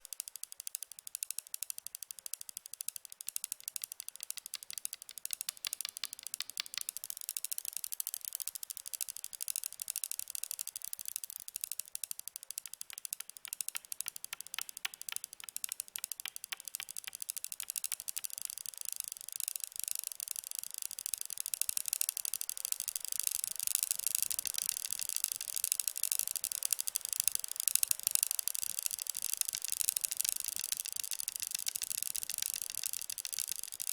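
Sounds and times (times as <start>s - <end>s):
rapid rattling clicks: 0.2s - 33.9s.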